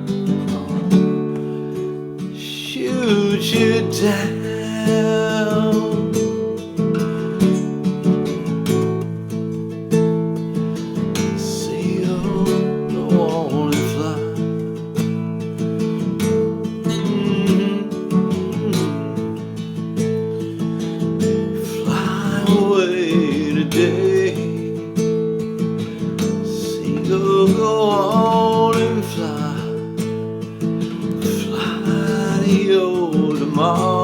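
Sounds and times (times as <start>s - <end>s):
acoustic guitar strummed: 0.0s - 34.0s.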